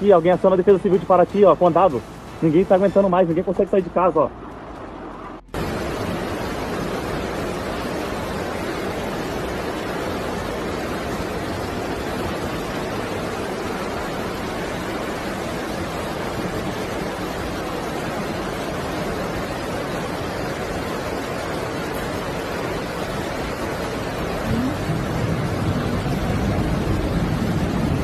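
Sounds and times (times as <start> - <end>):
rushing flood water: 0.0 - 28.0.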